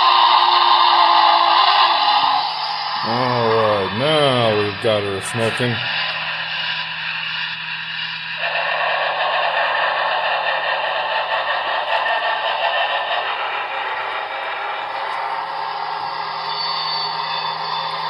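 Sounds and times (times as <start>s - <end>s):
steam hiss from small speaker: 0.0s - 18.0s.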